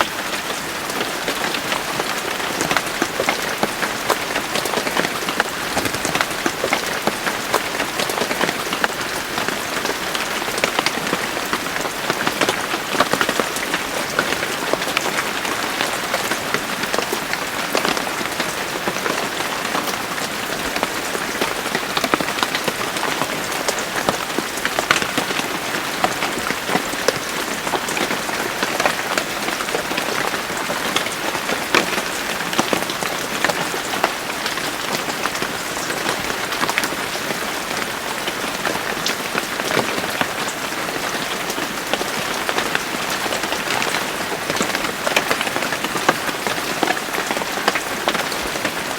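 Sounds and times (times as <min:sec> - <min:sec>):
raindrops ticking on a surface: 0:00.0 - 0:48.9
steady rain: 0:00.0 - 0:48.9.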